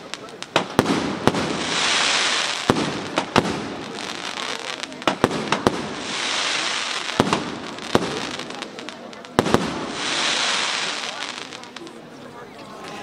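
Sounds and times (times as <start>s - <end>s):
fireworks bursting bangs: 0.0s - 12.0s
crackling firework hiss: 0.0s - 12.2s.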